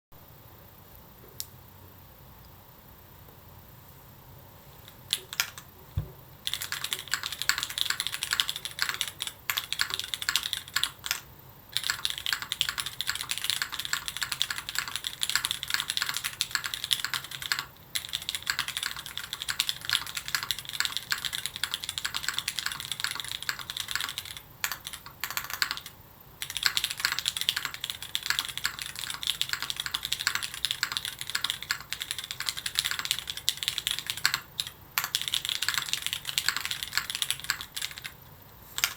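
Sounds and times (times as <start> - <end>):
mechanical keyboard typing: 5.0 - 5.7, 6.4 - 38.2.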